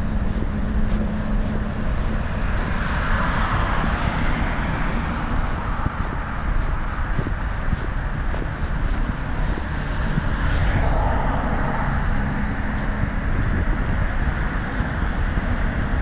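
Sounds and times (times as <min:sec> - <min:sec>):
footsteps: 0:00.0 - 0:14.8
car passing: 0:00.0 - 0:16.0
wind rumbling on microphone: 0:00.0 - 0:16.0.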